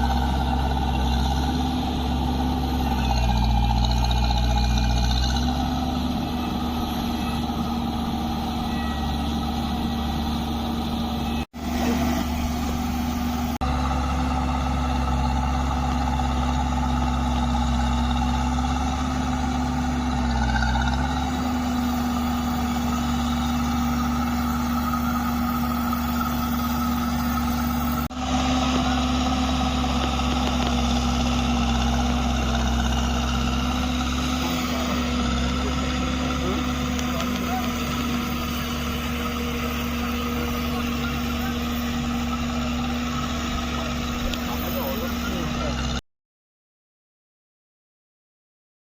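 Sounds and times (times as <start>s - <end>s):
road roller engine drone: 0.0s - 46.0s.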